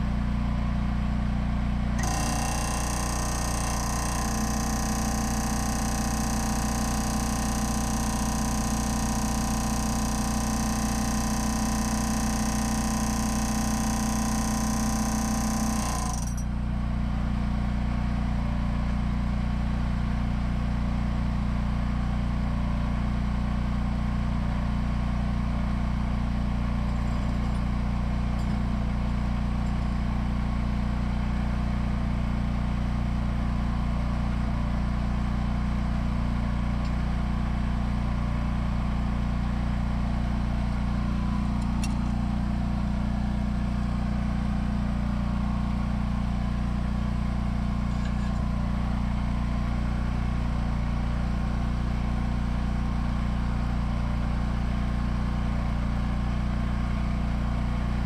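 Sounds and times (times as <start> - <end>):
engine running with low drone: 0.0 - 58.0.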